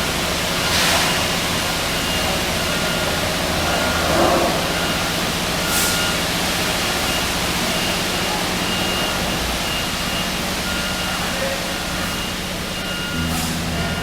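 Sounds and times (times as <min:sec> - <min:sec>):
diesel engine running: 0:00.0 - 0:14.0
reversing alarm beeping: 0:00.0 - 0:14.0.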